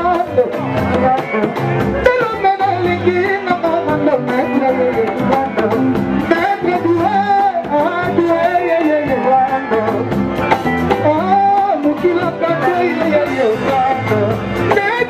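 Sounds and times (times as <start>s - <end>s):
guitar: 0.0s - 15.0s
person singing: 0.0s - 15.0s
steady beat: 0.0s - 15.0s.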